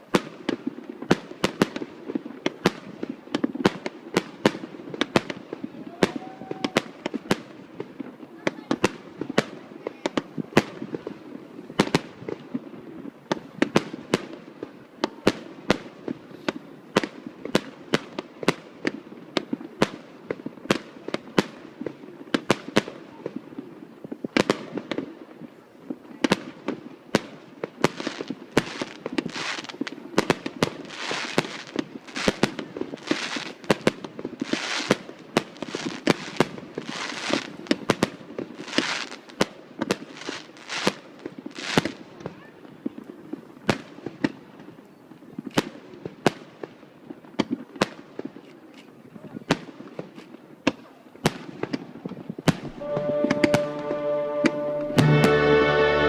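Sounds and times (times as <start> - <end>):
crackling hiss of fireworks: 0.0 - 56.0
fireworks exploding: 0.0 - 56.0.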